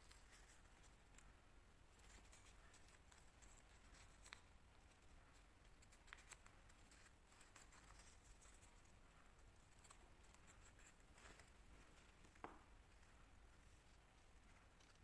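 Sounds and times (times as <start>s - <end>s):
soft crisp paper ticks: 0.0s - 1.3s, 1.9s - 15.0s.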